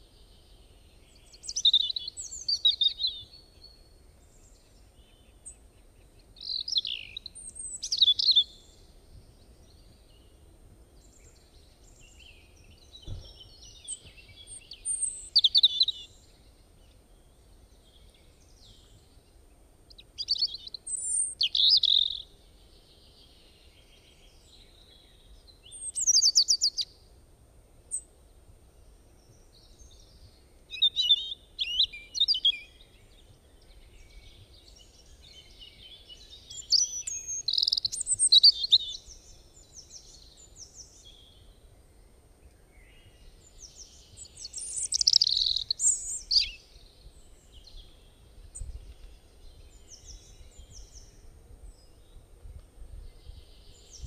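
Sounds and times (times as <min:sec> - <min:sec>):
songbirds singing: 0:00.0 - 0:27.2, 0:27.8 - 0:54.0
faint low background noise: 0:00.0 - 0:54.0.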